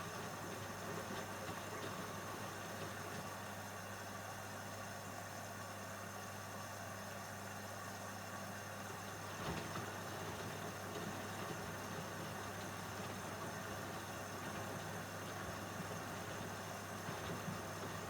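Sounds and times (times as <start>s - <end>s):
washing machine humming: 0.0s - 4.9s, 8.1s - 18.0s.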